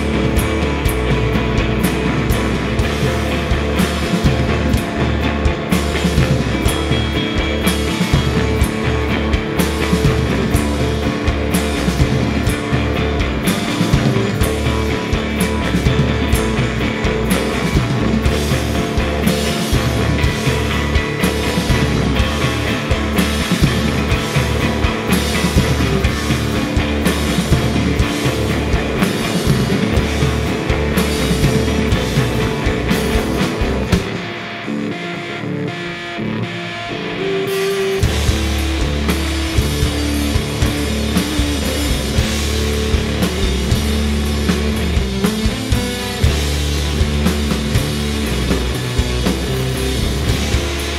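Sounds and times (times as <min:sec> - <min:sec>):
drum and cymbal hits: 0:00.0 - 0:34.9, 0:37.5 - 0:50.9
electric guitars: 0:00.0 - 0:50.9
rock band playing: 0:00.0 - 0:50.9.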